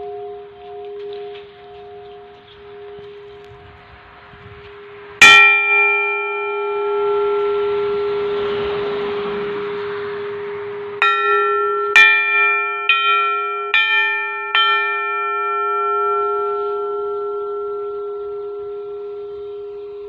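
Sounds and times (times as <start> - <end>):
metal bell-plate struck and ringing: 0.0 - 20.0.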